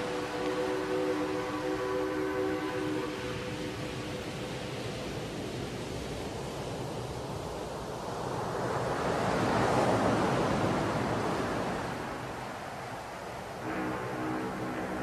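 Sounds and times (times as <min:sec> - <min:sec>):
surf washing onto a beach: 0:00.0 - 0:15.0.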